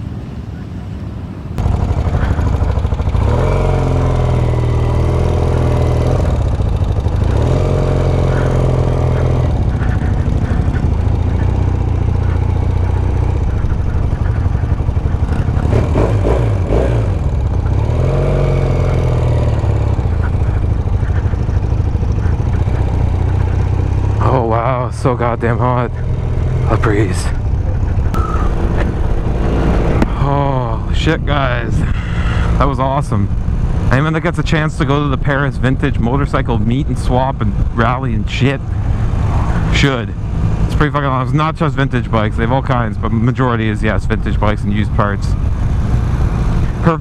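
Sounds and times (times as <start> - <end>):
motorcycle engine revving: 1.6 - 47.0.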